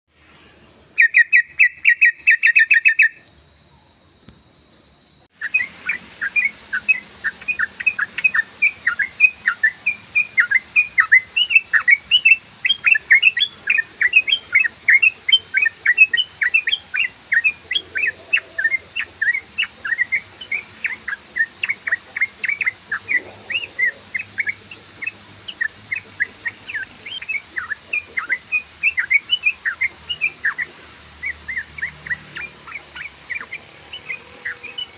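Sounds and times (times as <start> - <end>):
bird trill: 0.3 - 34.9
bird chirping rapidly: 0.4 - 34.9.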